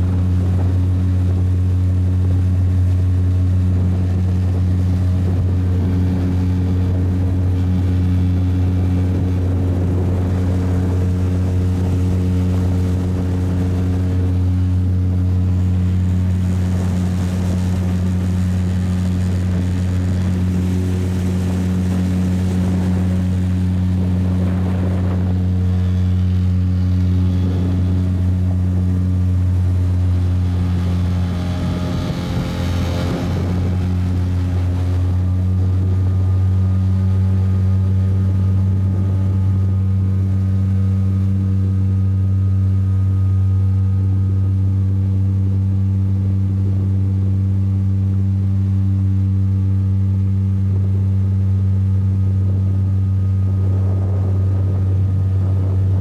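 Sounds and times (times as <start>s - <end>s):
motorboat engine humming: 0.0s - 56.0s.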